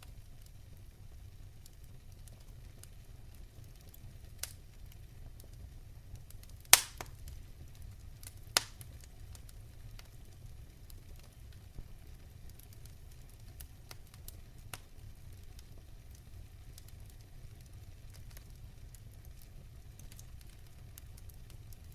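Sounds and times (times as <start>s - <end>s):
fire crackling: 0.0s - 21.9s
fire rumbling: 0.0s - 21.9s
wood fire popping: 0.0s - 21.9s.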